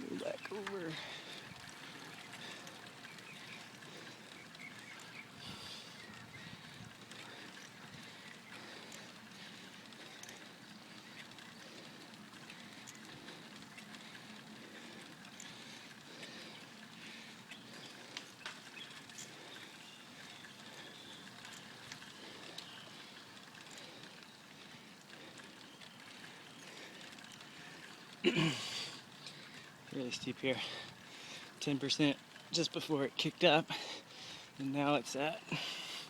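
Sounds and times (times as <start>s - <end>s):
soft bicycle clicks: 0.0s - 28.2s, 28.9s - 33.4s
bicycle tyre and riding noise: 0.0s - 36.0s.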